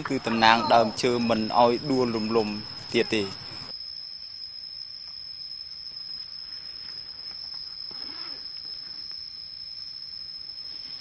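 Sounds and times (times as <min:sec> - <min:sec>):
faint high hiss: 0:00.0 - 0:11.0
insects droning: 0:00.0 - 0:11.0.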